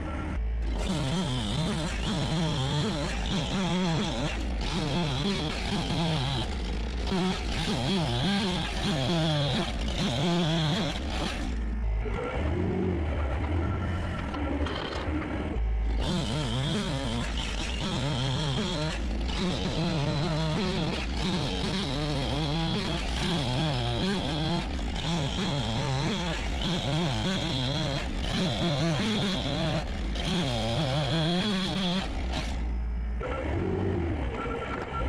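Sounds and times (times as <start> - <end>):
engine running: 0.0 - 35.0.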